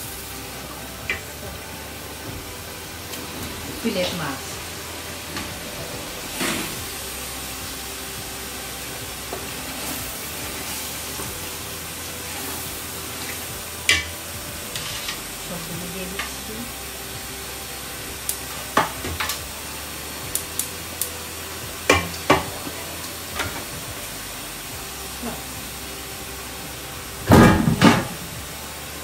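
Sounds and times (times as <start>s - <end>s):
frying sizzle in a pot: 0.0s - 29.0s.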